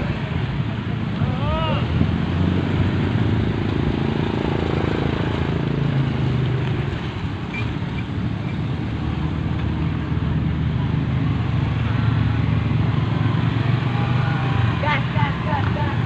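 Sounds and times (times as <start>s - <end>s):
constant rushing noise: 0.0s - 16.0s.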